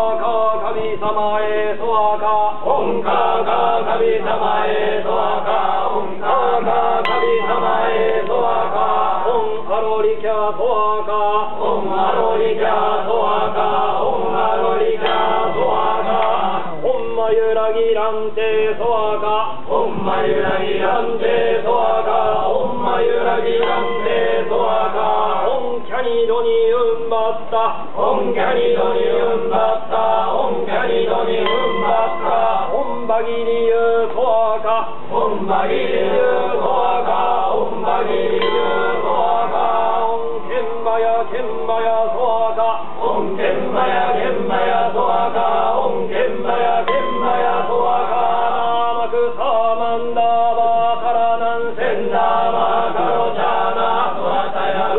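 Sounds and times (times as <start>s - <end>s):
men chanting in unison: 0.0s - 54.9s.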